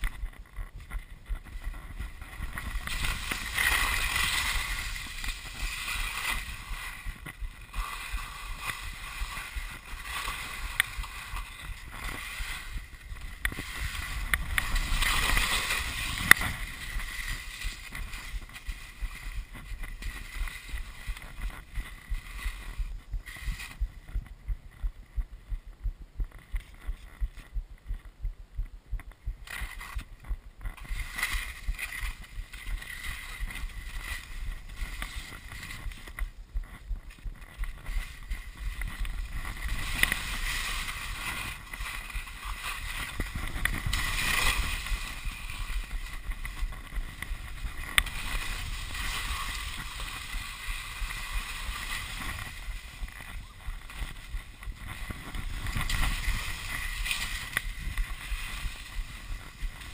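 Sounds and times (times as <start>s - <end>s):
skis scraping over crusty snow: 0.0s - 25.4s, 26.3s - 27.6s, 29.4s - 59.9s
wind rumbling on microphone: 0.0s - 59.9s.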